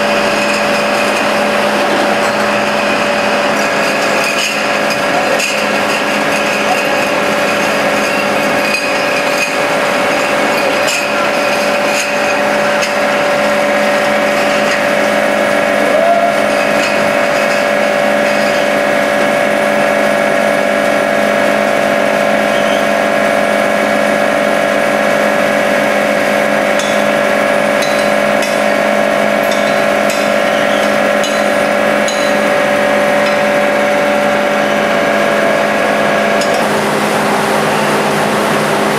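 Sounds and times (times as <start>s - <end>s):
bottle washing machine hum: 0.0s - 38.9s.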